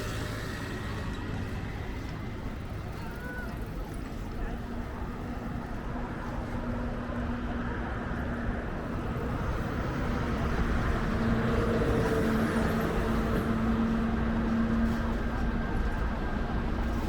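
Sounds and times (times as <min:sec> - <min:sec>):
street noise: 0:00.0 - 0:17.0
vehicle engine hum: 0:00.0 - 0:17.0.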